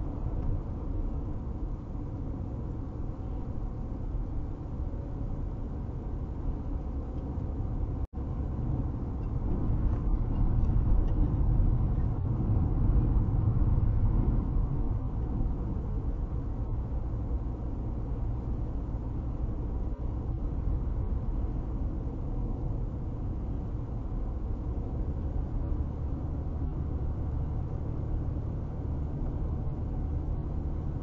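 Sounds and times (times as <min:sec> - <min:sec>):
car cabin road rumble: 0:00.0 - 0:31.0.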